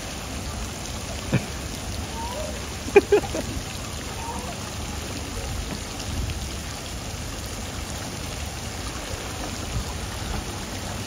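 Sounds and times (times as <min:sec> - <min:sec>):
pool water hissing: 0:00.0 - 0:11.0
wind rumble on microphone: 0:01.3 - 0:11.0.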